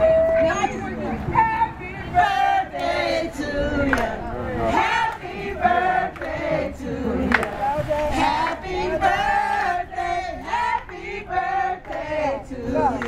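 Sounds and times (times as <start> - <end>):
crowd singing along: 0.0 - 13.0
group of voices singing: 1.2 - 13.0.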